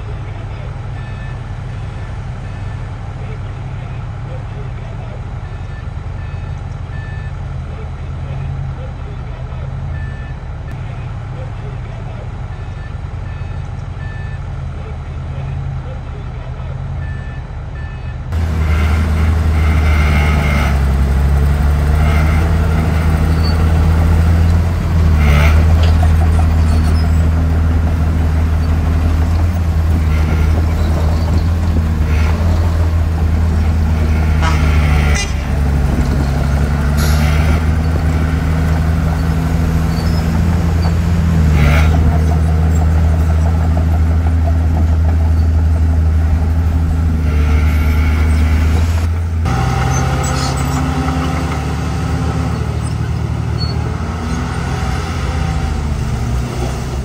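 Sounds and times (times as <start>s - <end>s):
diesel engines revving: 0.0s - 57.0s.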